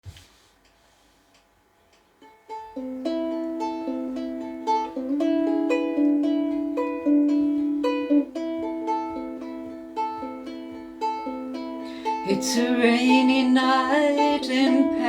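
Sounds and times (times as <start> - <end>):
ukulele picking arpeggios: 2.2 - 15.0.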